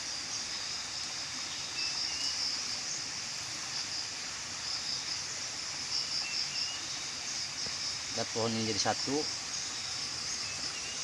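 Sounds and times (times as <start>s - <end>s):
insects chorus pulsing: 0.0s - 11.0s
steady hiss: 0.0s - 11.0s.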